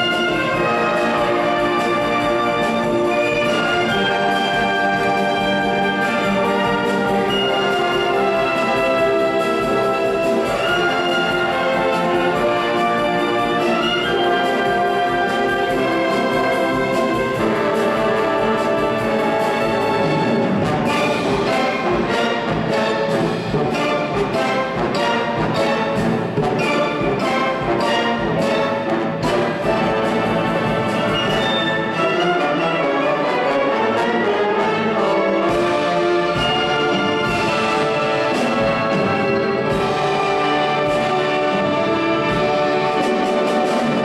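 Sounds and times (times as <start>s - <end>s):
orchestra playing brass-led music: 0.0s - 44.0s.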